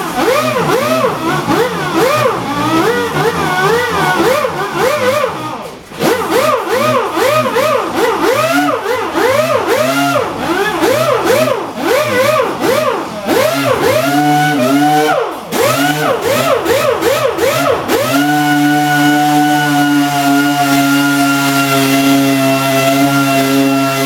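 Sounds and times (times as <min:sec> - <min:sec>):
orbital sander motor swooping: 0:00.0 - 0:24.0.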